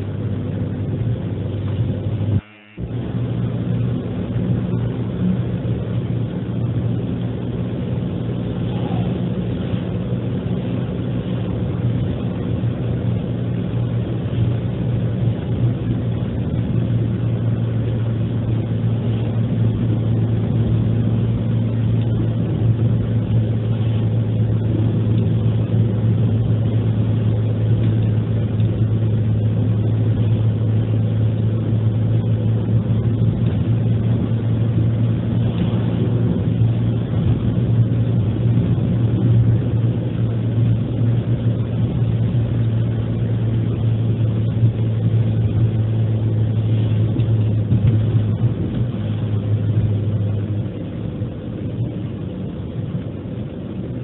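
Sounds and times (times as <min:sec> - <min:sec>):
car interior engine and tyre drone: 0:00.0 - 0:54.0.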